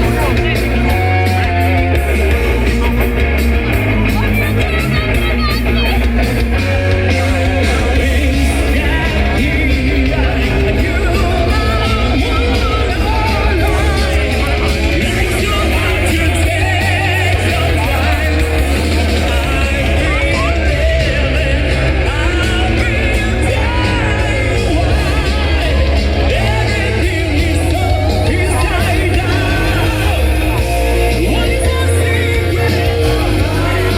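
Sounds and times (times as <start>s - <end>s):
metal music with singing: 0.0s - 33.9s.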